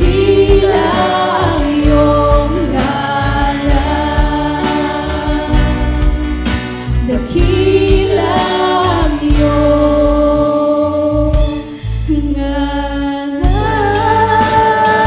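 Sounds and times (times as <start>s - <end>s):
voices singing together: 0.0s - 11.6s, 13.4s - 15.0s
band playing praise song: 0.0s - 15.0s.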